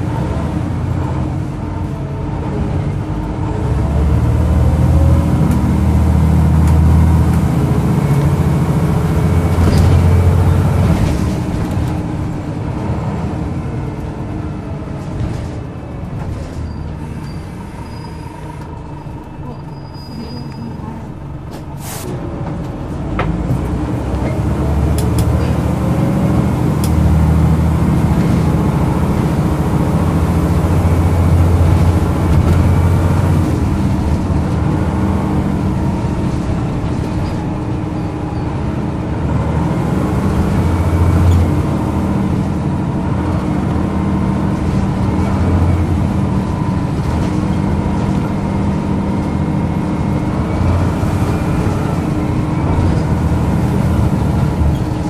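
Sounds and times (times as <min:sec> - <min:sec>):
bus diesel engine accelerating: 0:00.0 - 0:55.0.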